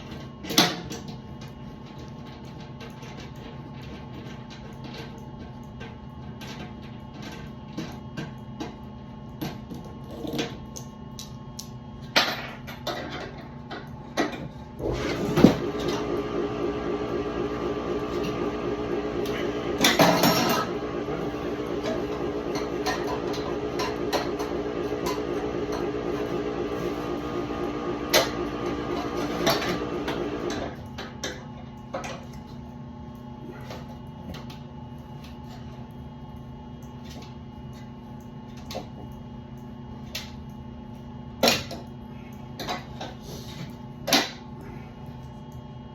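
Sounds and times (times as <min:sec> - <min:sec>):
furnace motor pulsing hum: 0:00.0 - 0:45.9.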